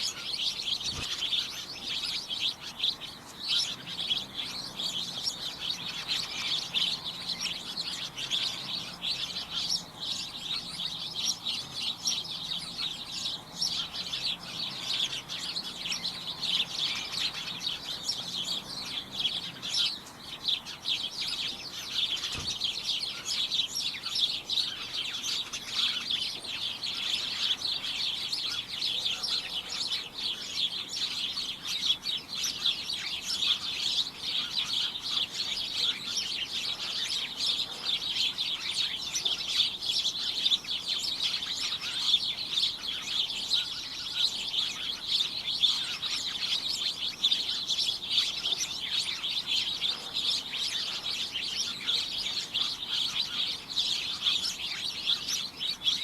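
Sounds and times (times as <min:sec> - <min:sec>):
flock of small birds chirping: 0:00.0 - 0:56.0.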